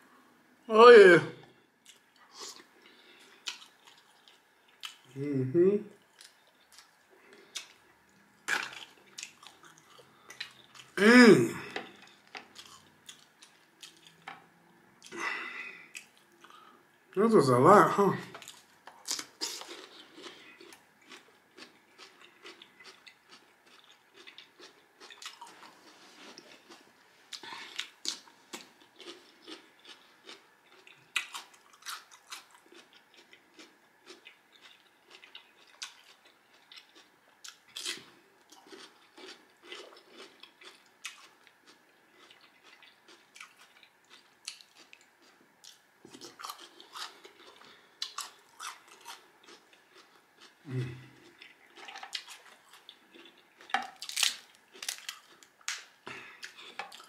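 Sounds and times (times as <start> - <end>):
chewing and crunching: 1.8 - 5.2, 6.0 - 11.0, 11.6 - 16.8, 18.3 - 57.0.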